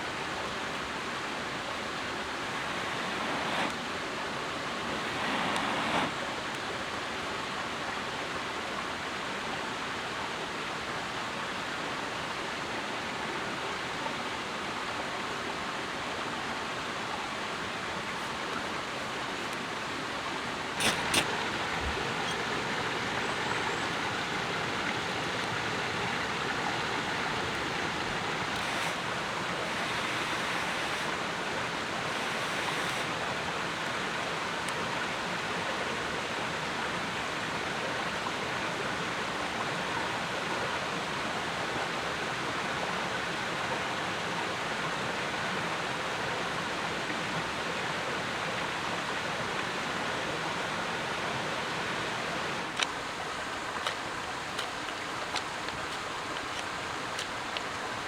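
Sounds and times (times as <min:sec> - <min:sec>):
rushing outdoor noise: 0:00.0 - 0:08.0, 0:11.4 - 0:58.0.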